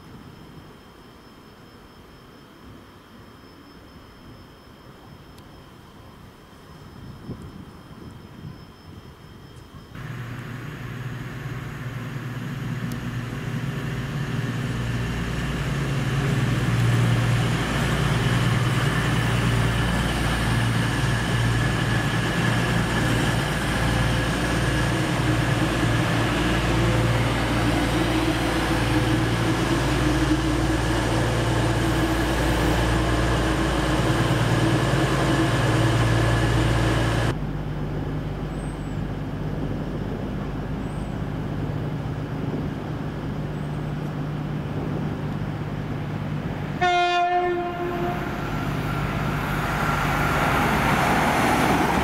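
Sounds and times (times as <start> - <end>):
diesel train engine drone: 4.8 - 52.0
train rail noise: 9.6 - 52.0.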